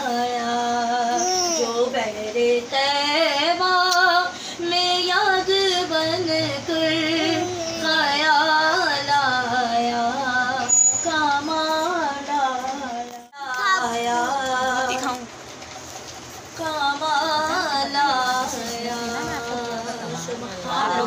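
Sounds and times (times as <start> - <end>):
woman singing unaccompanied: 0.0 - 15.4, 16.5 - 21.0.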